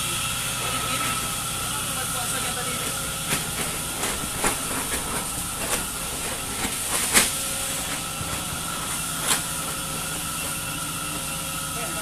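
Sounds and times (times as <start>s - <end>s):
steady machinery noise: 0.0s - 12.0s.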